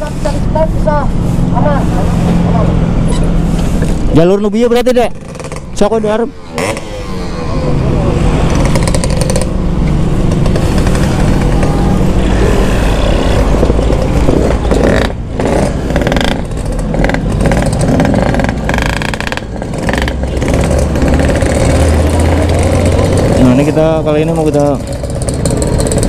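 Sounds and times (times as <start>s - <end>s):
motorcycle engines idling: 3.6s - 26.0s.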